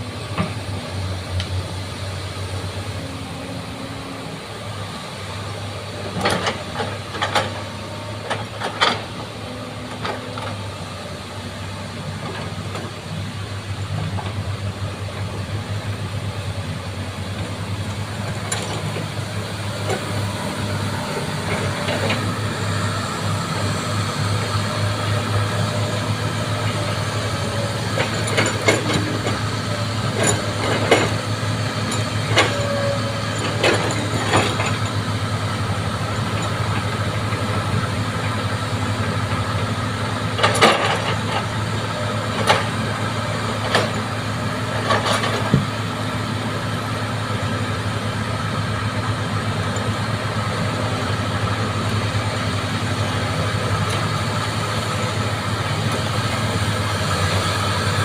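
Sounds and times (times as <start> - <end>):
bulldozer engine droning: 0.0 - 58.0.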